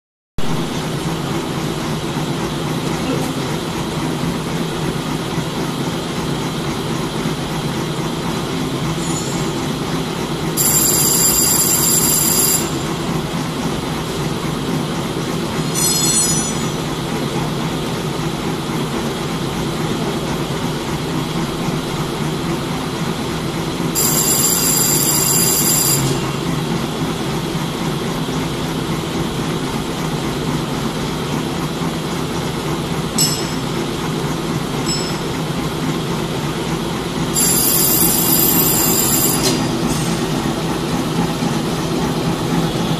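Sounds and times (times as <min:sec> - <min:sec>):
machine mechanical hum: 0:00.4 - 0:42.9.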